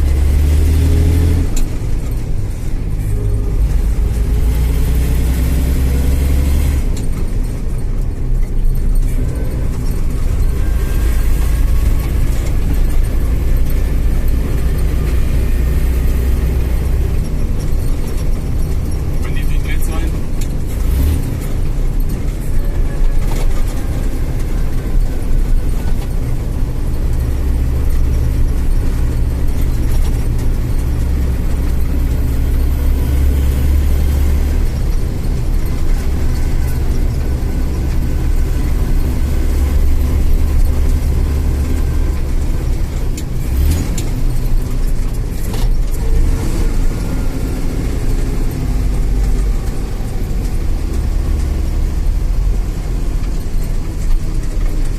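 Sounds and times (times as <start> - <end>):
truck diesel engine rumbling: 0.0 - 54.9.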